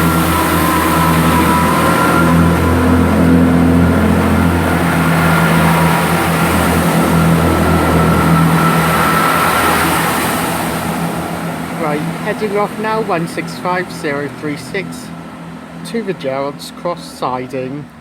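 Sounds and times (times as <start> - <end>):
train diesel engines humming: 0.0 - 18.0.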